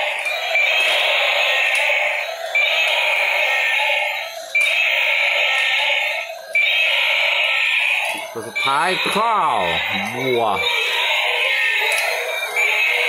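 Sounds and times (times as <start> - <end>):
toy speaker electronic roar: 0.0 - 13.0.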